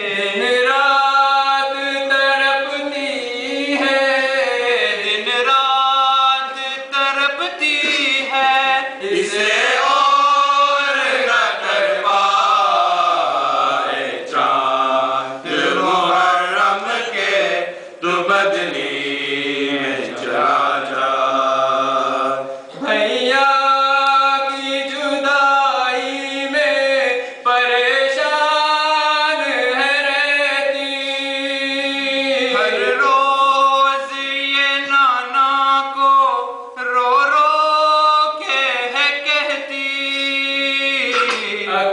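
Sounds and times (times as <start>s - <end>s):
men chanting a lament: 0.0s - 41.9s.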